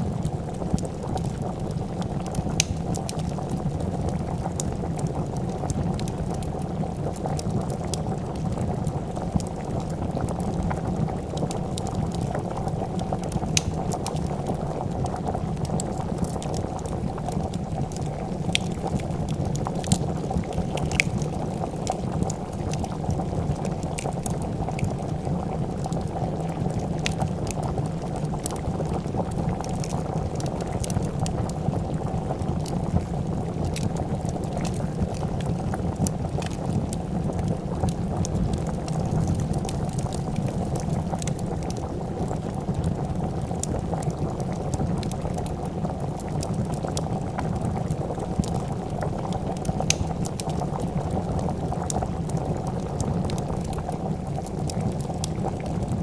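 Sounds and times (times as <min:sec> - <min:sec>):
fire crackling and popping: 0:00.0 - 0:56.0
soup bubbling in a pot: 0:00.0 - 0:56.0.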